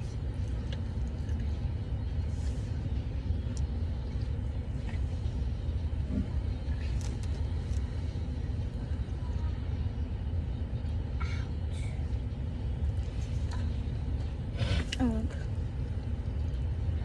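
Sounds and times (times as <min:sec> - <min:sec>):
car cabin engine rumble: 0:00.0 - 0:17.0.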